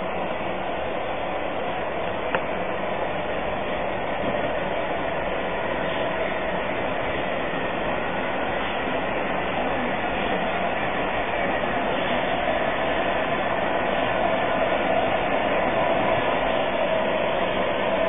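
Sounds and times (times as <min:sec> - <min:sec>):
steam train rolling slowly: 0:00.0 - 0:18.0.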